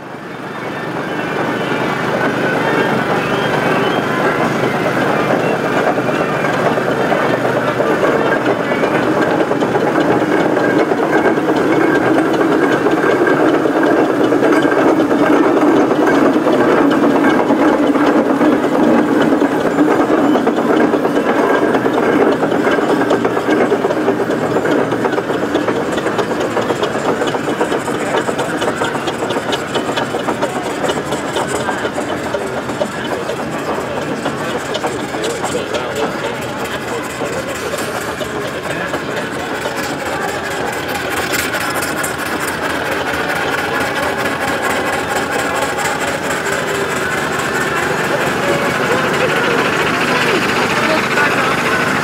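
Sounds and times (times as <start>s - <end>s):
steam engines running: 0.0s - 52.0s.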